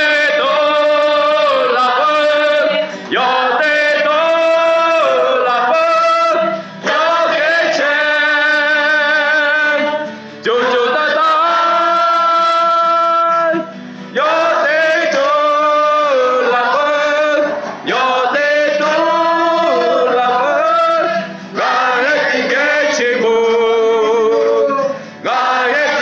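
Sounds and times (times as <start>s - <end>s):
acoustic guitar: 0.0s - 26.0s
man singing: 0.0s - 26.0s.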